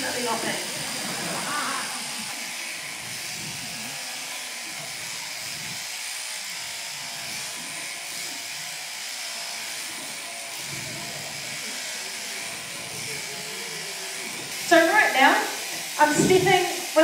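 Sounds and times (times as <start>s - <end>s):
electric shearing handpiece buzzing: 0.0s - 17.0s.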